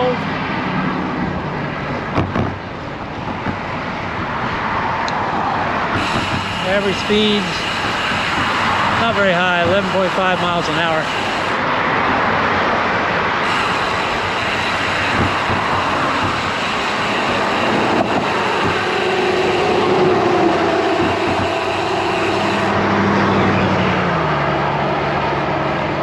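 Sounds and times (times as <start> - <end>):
highway traffic: 0.0 - 26.0
passing vehicle engine hum: 0.0 - 26.0
wind noise on microphone: 1.1 - 23.0.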